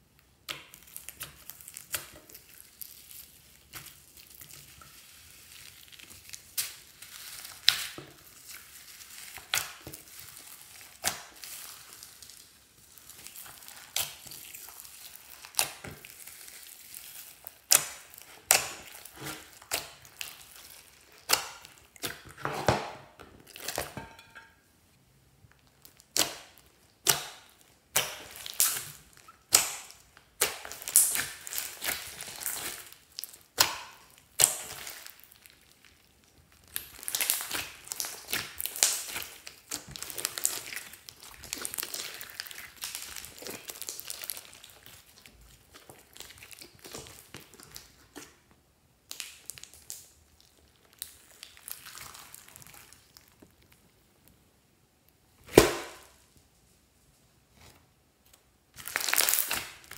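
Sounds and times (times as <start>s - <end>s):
slime squishing: 0.4s - 24.0s, 25.5s - 54.4s, 58.2s - 59.9s.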